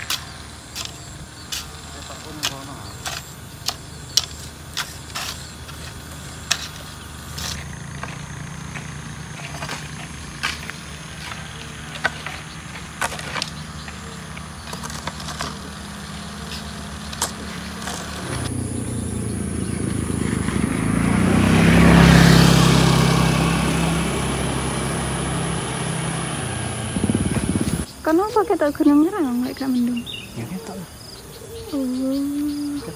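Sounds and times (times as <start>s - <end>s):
low hum: 0.0s - 28.0s
small motorcycle passing: 0.0s - 32.9s.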